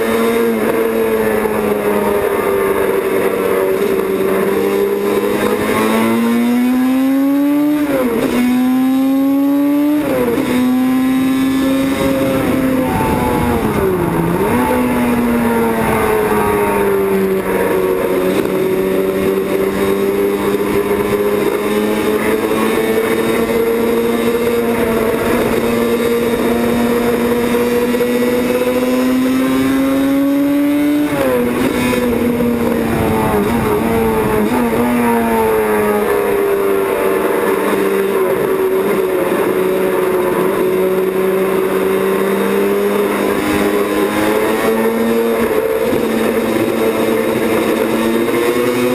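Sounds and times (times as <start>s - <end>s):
racing motorcycle engine revving: 0.0s - 48.9s.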